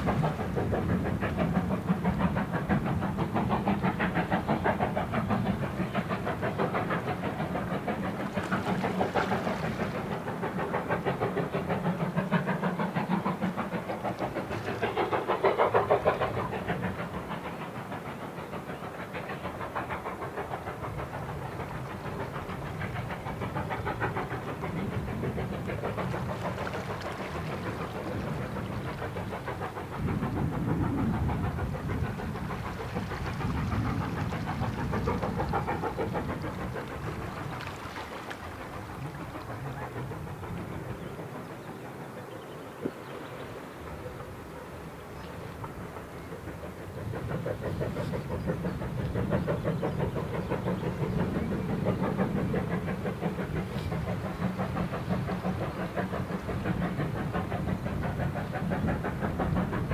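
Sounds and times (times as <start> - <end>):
steam locomotive exhaust beating: 0.0 - 59.9
train running on rails: 0.0 - 59.9.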